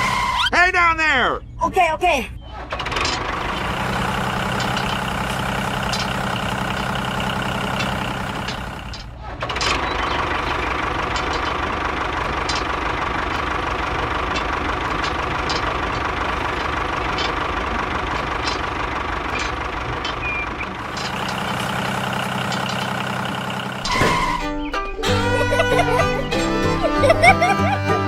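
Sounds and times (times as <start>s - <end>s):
vehicle engine running with knock: 2.7s - 28.0s.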